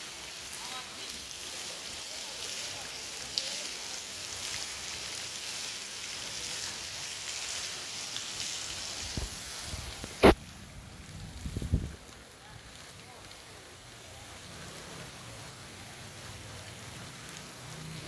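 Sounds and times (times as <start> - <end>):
fountain jets splashing: 0.0 - 18.0.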